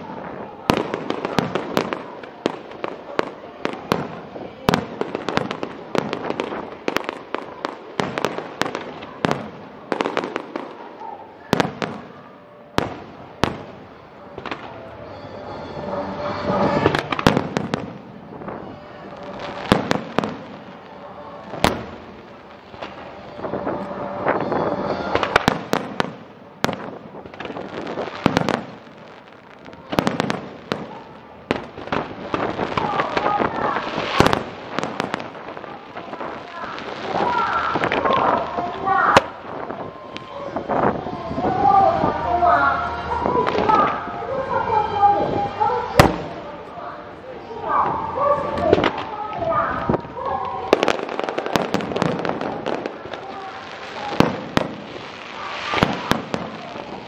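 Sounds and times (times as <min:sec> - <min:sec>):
fireworks bursting with sharp bangs: 0:00.0 - 0:42.4, 0:43.0 - 0:46.7, 0:47.6 - 0:57.0.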